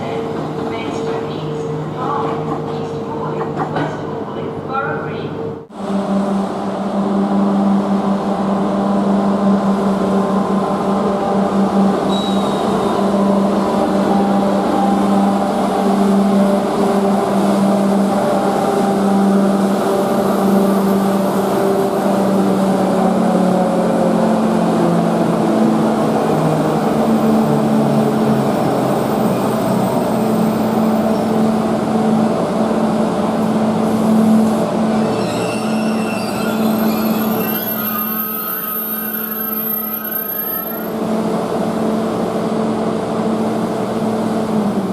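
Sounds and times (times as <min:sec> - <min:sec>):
train hum and drive tones: 0:00.0 - 0:44.9.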